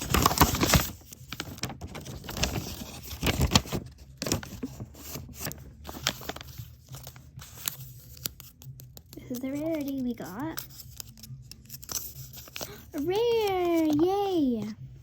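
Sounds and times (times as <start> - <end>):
plastic packet tearing and rustling: 0.0 - 14.2.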